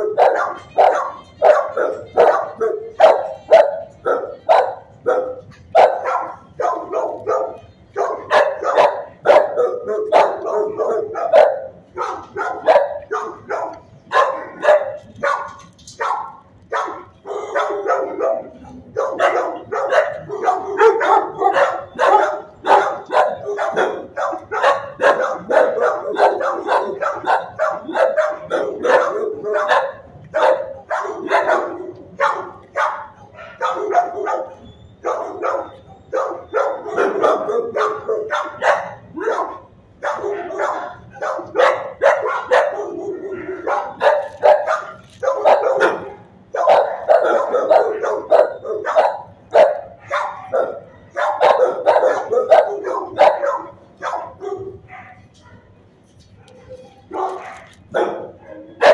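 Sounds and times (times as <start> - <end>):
dogs barking: 0.0 - 58.9.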